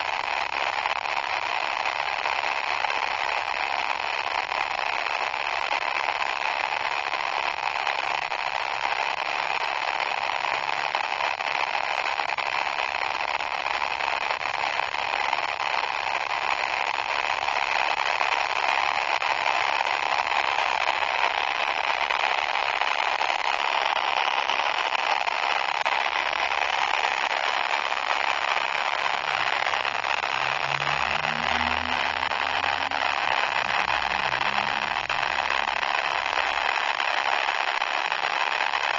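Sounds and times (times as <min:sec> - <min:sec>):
harsh distorted hiss: 0:00.0 - 0:38.9.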